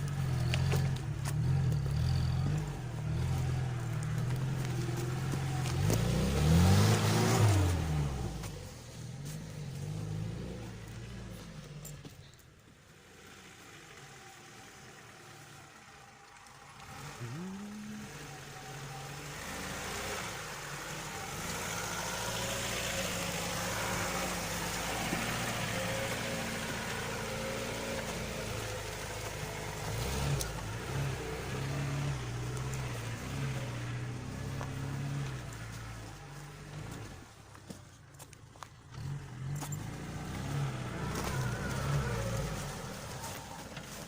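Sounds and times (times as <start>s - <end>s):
car engine revving under load: 0.0s - 37.8s, 38.7s - 44.0s.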